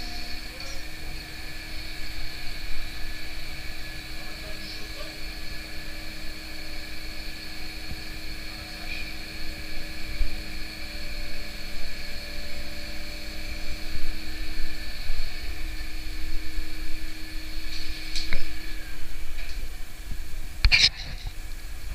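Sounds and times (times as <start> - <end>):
machinery drone with held tones: 0.0 - 21.9.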